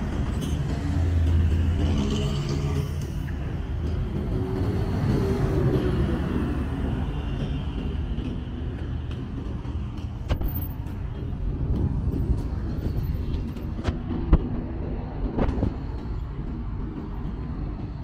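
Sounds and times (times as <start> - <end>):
street traffic rumbling: 0.0 - 18.0.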